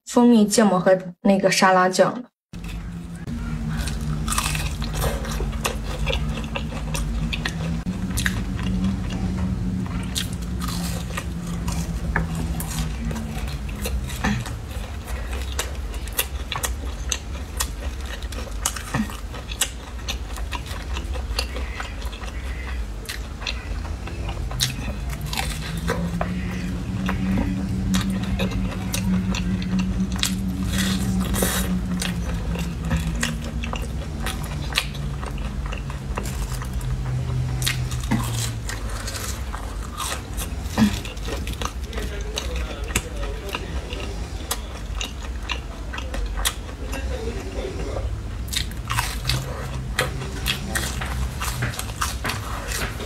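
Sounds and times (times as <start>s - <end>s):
low hum: 2.5s - 53.0s
crunchy food being chewed: 2.6s - 53.0s.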